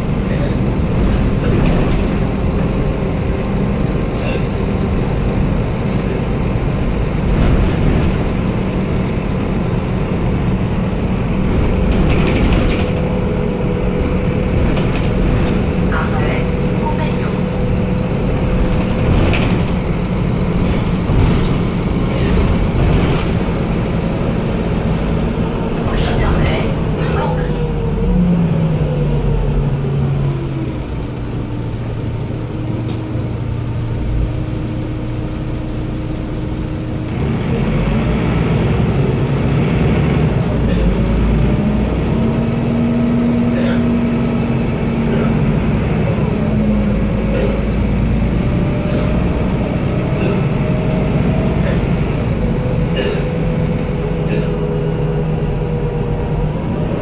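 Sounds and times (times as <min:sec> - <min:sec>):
bus engine whine: 0:00.0 - 0:57.0.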